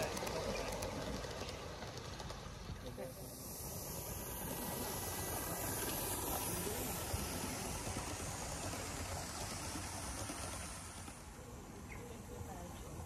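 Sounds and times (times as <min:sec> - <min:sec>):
metal wheels rumbling on track: 0:00.0 - 0:13.0
steam hissing: 0:00.0 - 0:13.0.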